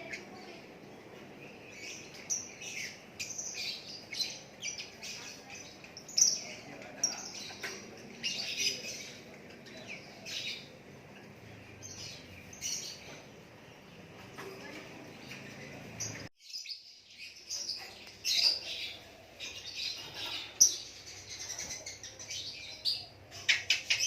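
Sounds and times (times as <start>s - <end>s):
songbird chirping and twittering: 0.0s - 24.0s.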